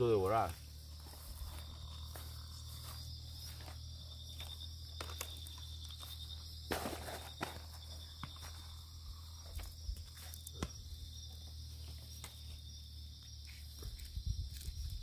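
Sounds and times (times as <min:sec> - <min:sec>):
night insects chirring: 0:00.0 - 0:15.0.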